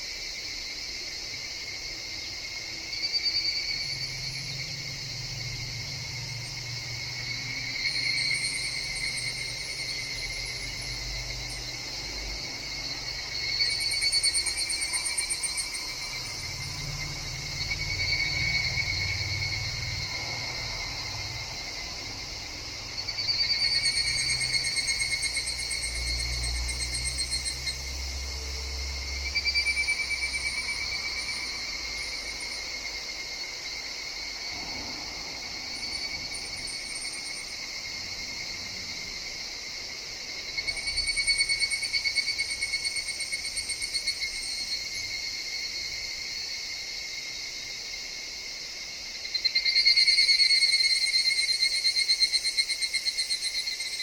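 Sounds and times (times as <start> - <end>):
cicadas pulsing chorus: 0.0 - 54.0.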